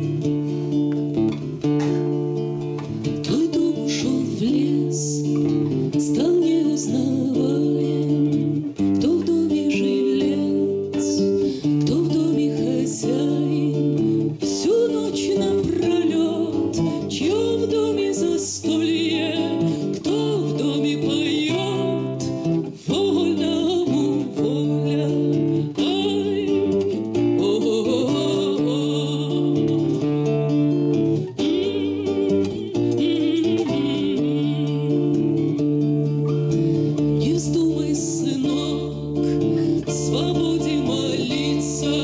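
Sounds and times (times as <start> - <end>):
woman singing: 0.0 - 0.5, 2.8 - 42.0
plucked classical guitar chords: 0.0 - 42.0.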